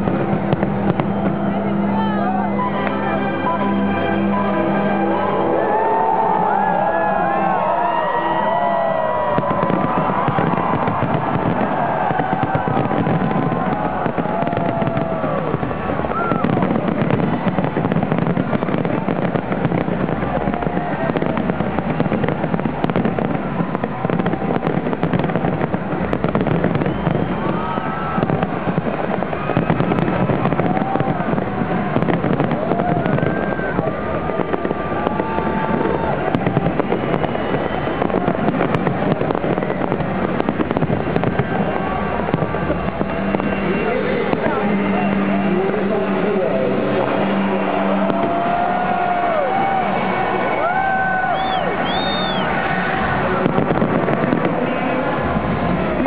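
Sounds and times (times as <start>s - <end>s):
firework bursts and bangs: 0.0s - 4.1s, 4.8s - 56.0s
firework crackling: 0.0s - 56.0s.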